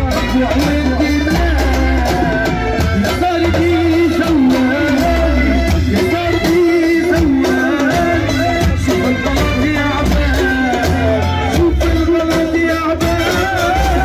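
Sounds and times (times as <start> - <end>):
man singing into a microphone: 0.0 - 14.0
party music with heavy bass: 0.0 - 14.0.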